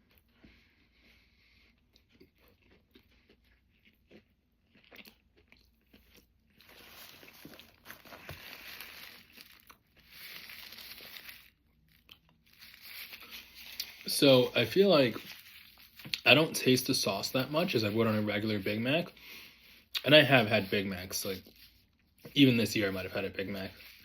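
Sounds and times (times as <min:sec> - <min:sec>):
chewing crispy food: 0:00.0 - 0:24.0.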